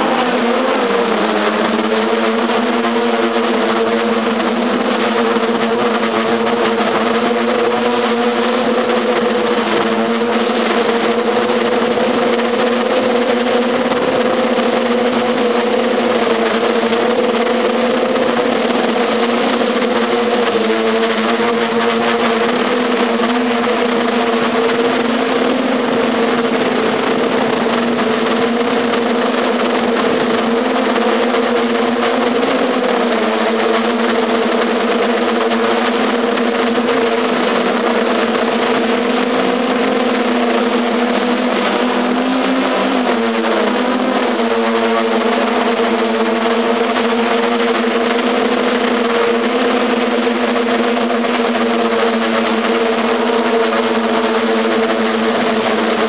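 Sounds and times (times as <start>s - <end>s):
drone motors humming: 0.0s - 56.0s
steady rush: 0.0s - 56.0s.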